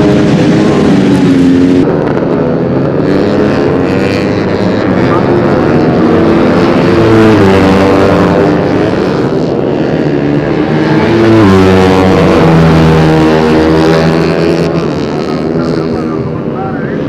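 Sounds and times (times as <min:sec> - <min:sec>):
motorcycles passing at full throttle: 0:00.0 - 0:17.0.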